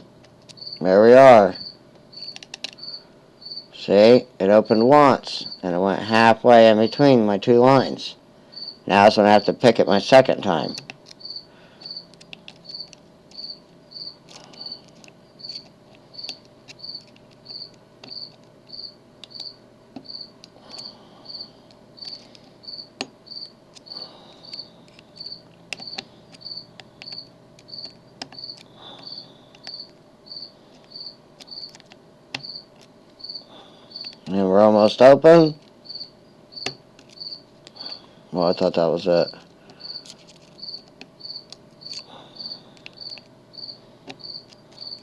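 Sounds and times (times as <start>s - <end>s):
cricket chirping: 0.5s - 7.9s, 8.5s - 31.8s, 32.4s - 45.0s.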